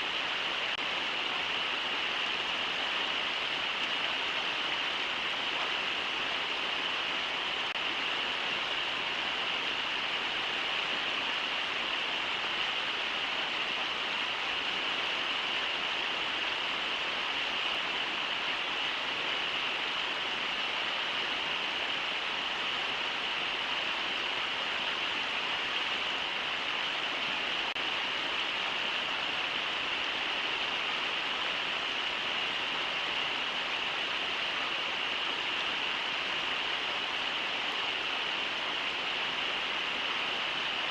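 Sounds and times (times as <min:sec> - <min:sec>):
river water over rapids: 0:00.0 - 0:40.9.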